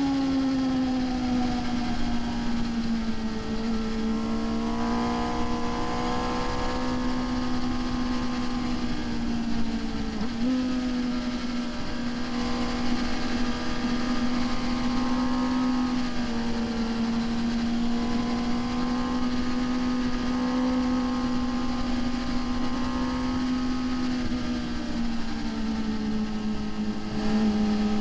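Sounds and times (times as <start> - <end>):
motorcycle engine high revs: 0.0 - 28.0.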